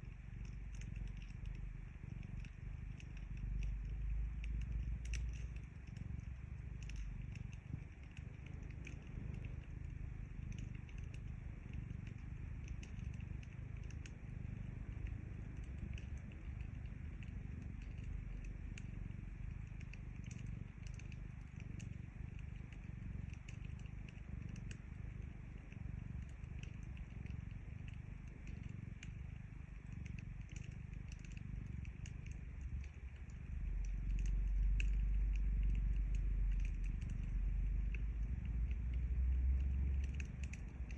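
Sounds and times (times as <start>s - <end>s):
cat purring: 0.0s - 40.9s
wood fire crackling: 0.1s - 40.9s.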